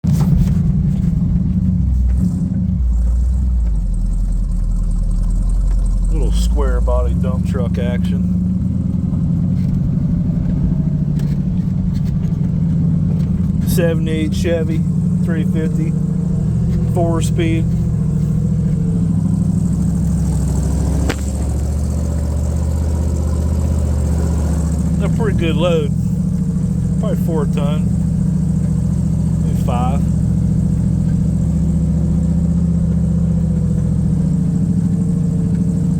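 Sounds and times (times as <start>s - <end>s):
truck engine droning under load: 0.0s - 35.9s.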